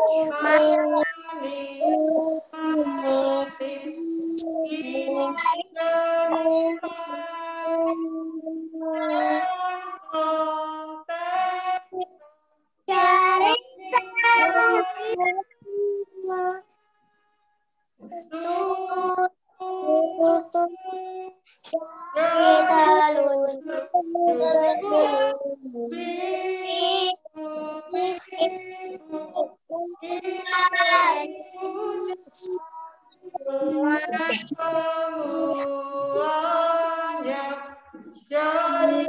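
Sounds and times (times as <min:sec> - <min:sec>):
children singing action song: 0:00.0 - 0:12.2, 0:12.9 - 0:16.7, 0:18.0 - 0:39.0.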